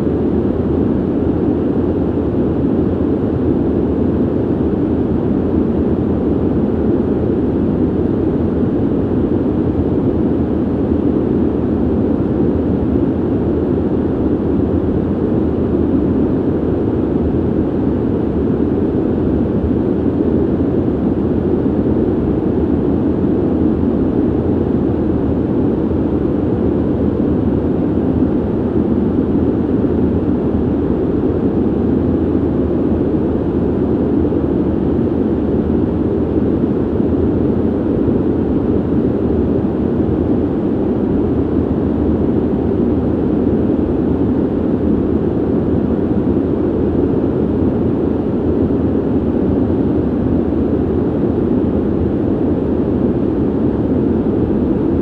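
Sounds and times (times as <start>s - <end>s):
ventilation air rush: 0.0s - 55.0s.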